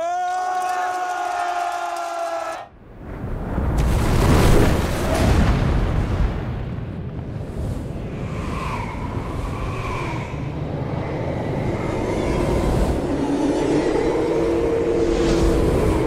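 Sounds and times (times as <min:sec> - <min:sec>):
deep rumble: 0:02.9 - 0:16.0.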